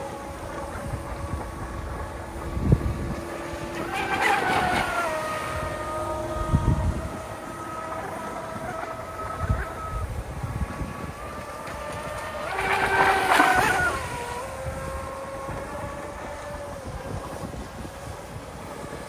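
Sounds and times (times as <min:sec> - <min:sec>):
rc speedboat motor whine: 0:00.0 - 0:19.0.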